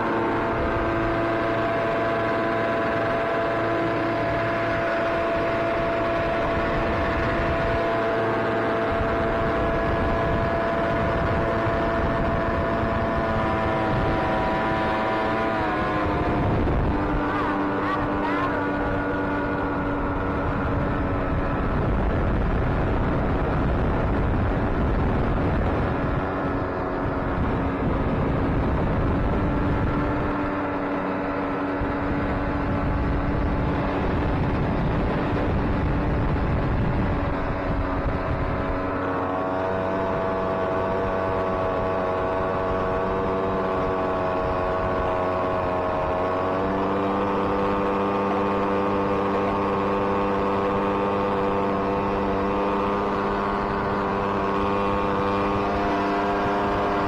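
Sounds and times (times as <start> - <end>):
boat engine running: 0.0 - 57.0
wind buffeting microphone: 0.0 - 57.0.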